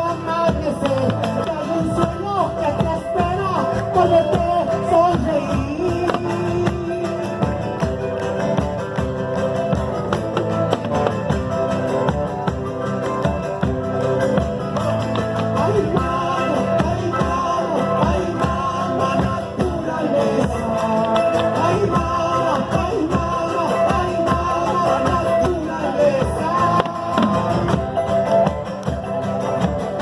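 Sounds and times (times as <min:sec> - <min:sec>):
guitar: 0:00.0 - 0:30.0
percussion beat: 0:00.0 - 0:30.0.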